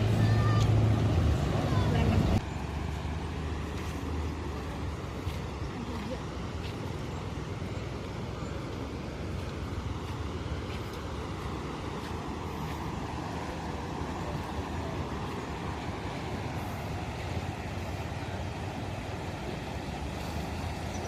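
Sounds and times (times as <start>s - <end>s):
floodwater rushing through weir: 0.0s - 21.0s.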